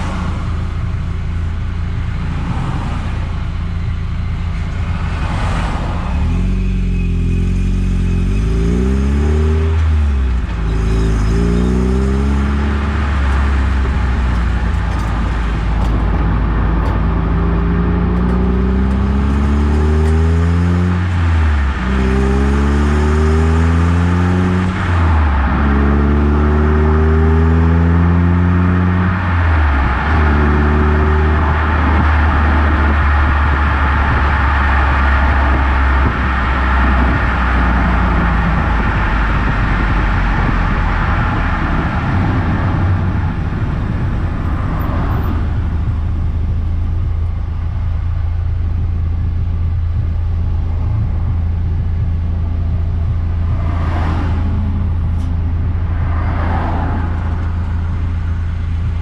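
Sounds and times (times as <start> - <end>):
car engine accelerating through gears: 0.0 - 59.0
tyre and road noise: 0.0 - 59.0.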